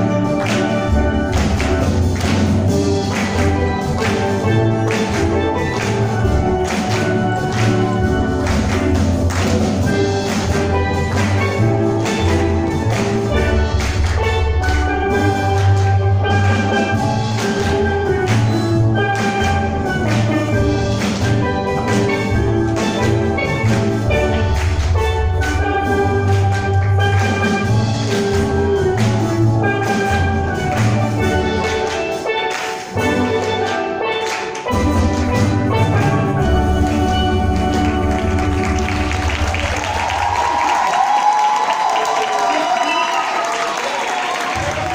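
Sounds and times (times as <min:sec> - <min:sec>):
steel pan ensemble playing: 0:00.0 - 0:44.9.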